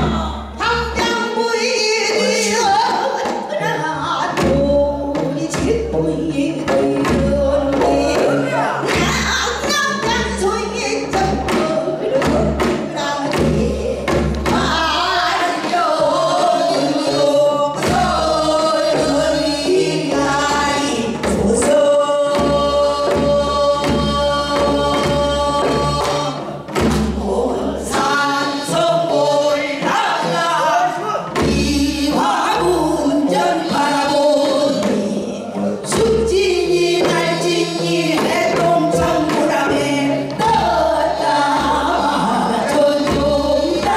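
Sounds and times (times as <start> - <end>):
instrumental accompaniment: 0.0 - 43.9
women singing folk song: 0.0 - 43.9.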